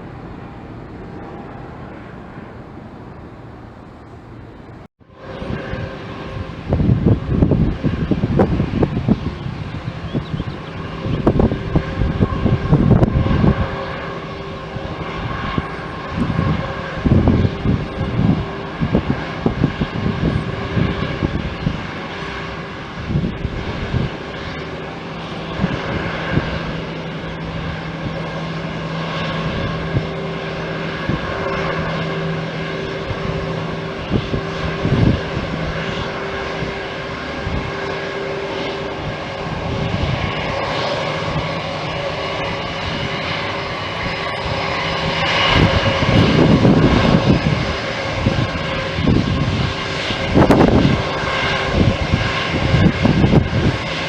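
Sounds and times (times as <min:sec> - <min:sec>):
aircraft engines whining: 0:00.0 - 0:54.0
wind buffeting microphone: 0:00.0 - 0:54.0.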